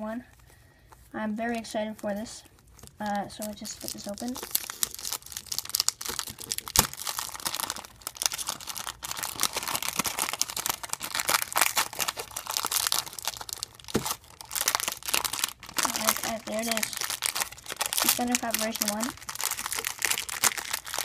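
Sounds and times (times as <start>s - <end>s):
plastic wrap crinkling and tearing: 1.9s - 21.0s.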